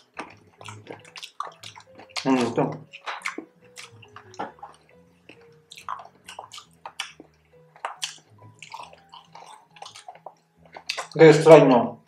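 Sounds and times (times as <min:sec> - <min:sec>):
crunchy chewing: 0:00.0 - 0:11.2
wet mouth clicks: 0:00.0 - 0:11.2
quiet background music: 0:00.0 - 0:12.0.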